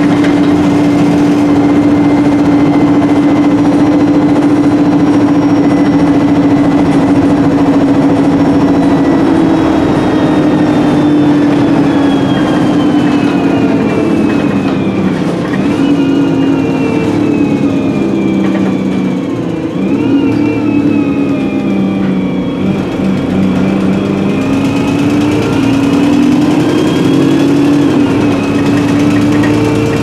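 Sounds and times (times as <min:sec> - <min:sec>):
bus engine drone: 0:00.0 - 0:30.0
falling gearbox whine: 0:00.0 - 0:30.0.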